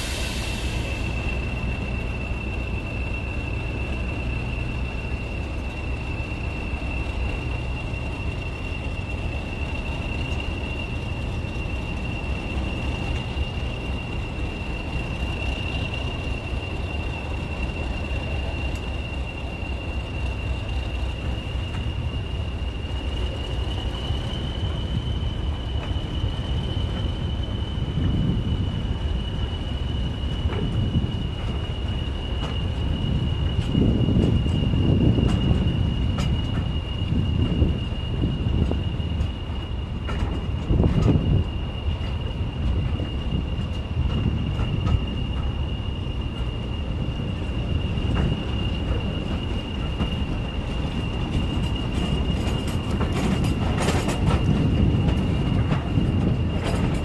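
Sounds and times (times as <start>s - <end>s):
diesel engine and wheel rumble: 0.0s - 57.0s.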